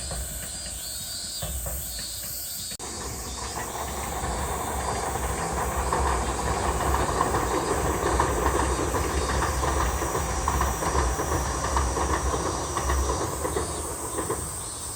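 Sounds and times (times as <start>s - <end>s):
electric train on a bridge: 0.0s - 14.9s.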